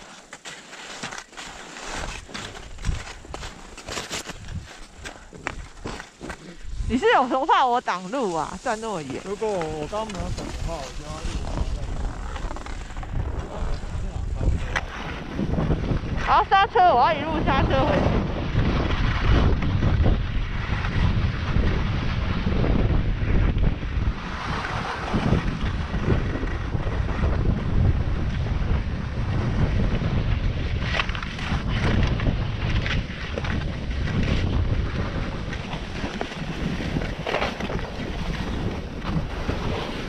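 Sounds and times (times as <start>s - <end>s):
skis scraping on packed snow: 0.0s - 40.0s
wind buffeting microphone: 2.0s - 40.0s.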